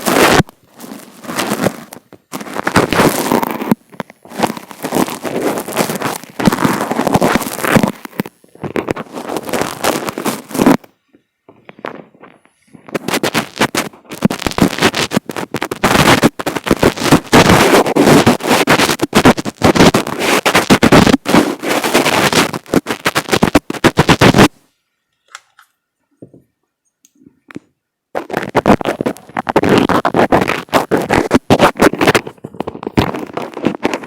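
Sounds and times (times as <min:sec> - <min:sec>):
fingers rubbing on a microphone: 0:00.0 - 0:24.6, 0:27.1 - 0:34.0.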